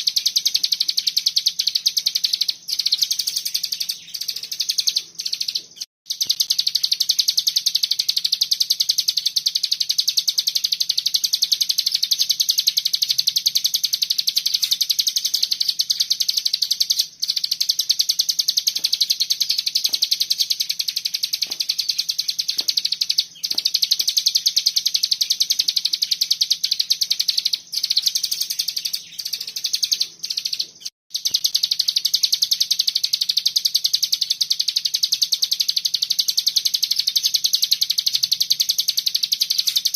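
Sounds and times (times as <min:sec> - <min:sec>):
bird rapid trilling song: 0:00.0 - 0:39.9.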